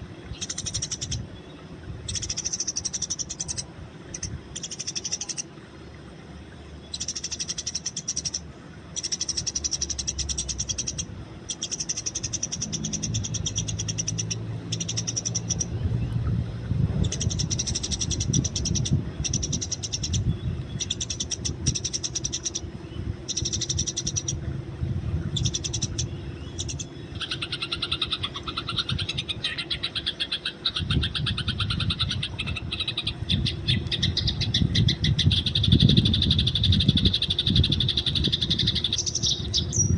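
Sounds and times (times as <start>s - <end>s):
sparrows chirping: 0.0s - 5.6s, 6.6s - 16.2s, 17.0s - 24.5s, 25.1s - 39.9s
low bird chattering: 0.3s - 1.3s, 2.1s - 5.5s, 9.0s - 15.9s, 17.0s - 24.4s, 25.2s - 39.9s.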